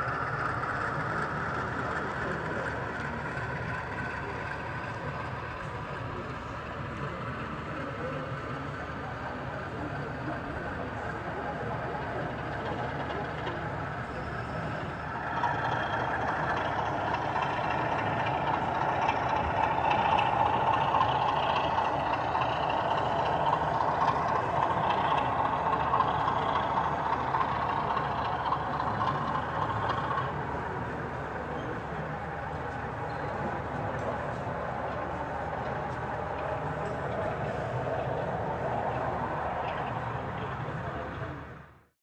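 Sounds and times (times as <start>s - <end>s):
exhibition hall hubbub: 0.0s - 41.8s
model train running on track: 0.0s - 41.9s.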